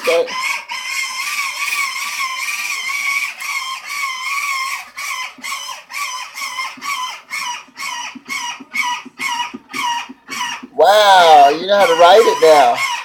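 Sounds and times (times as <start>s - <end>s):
toy electric motor whining: 0.0s - 13.0s.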